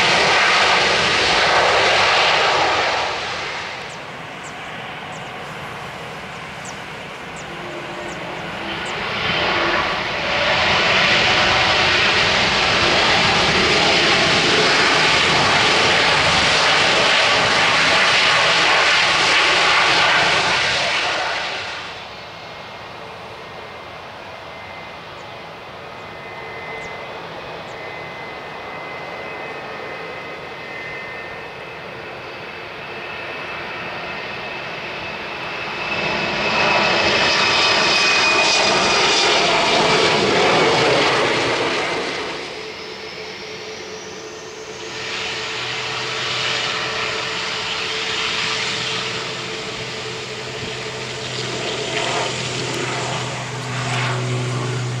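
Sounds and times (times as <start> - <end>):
jet engines roaring: 0.0 - 55.0
jet noise with falling whine: 0.0 - 55.0
turboprop engines droning: 0.0 - 55.0.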